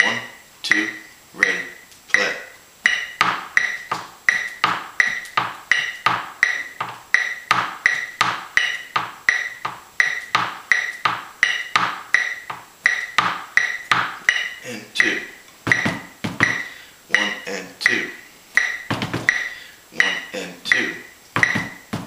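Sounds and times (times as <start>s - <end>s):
mallets striking wooden tabletop: 0.0s - 22.0s
metronome beeping: 0.0s - 22.0s.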